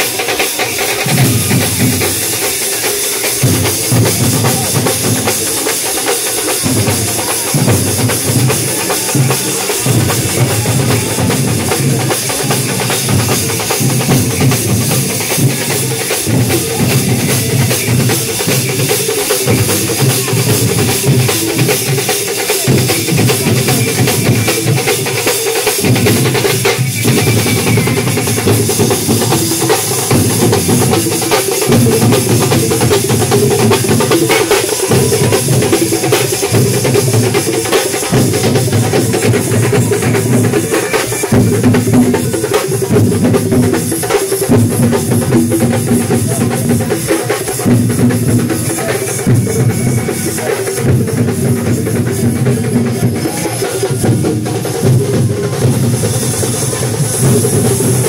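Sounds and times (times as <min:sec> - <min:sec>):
drum troupe beating large drums: 0:00.0 - 0:58.0.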